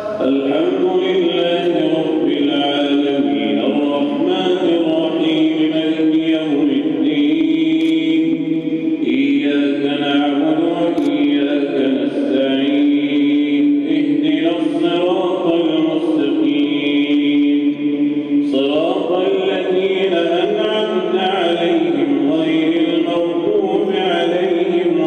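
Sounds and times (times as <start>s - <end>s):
man chanting melodic recitation: 0.0s - 25.0s.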